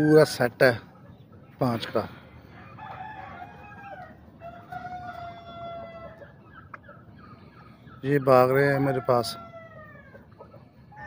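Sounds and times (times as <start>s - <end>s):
turkeys calling: 0.0s - 11.0s.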